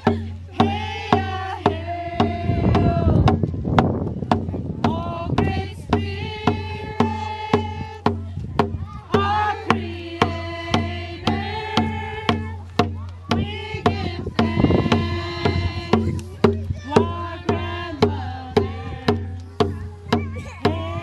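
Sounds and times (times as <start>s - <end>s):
women singing together: 0.0s - 3.4s, 4.8s - 8.2s, 9.1s - 12.6s, 13.3s - 21.0s
hand drum beats: 0.0s - 21.0s.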